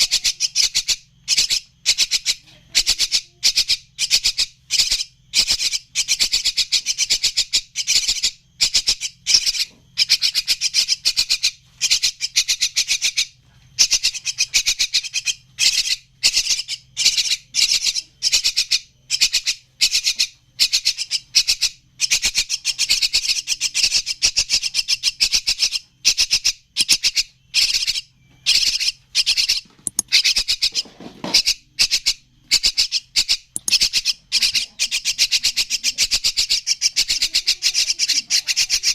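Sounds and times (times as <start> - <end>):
bird chicks rasping calls: 0.0 - 38.9.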